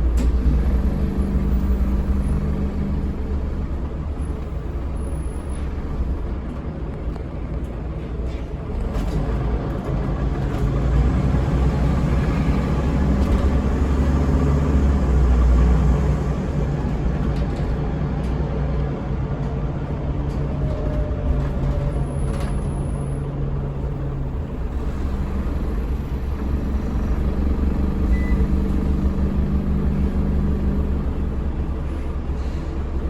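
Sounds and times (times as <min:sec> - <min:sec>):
bus diesel engine running: 0:00.0 - 0:33.0.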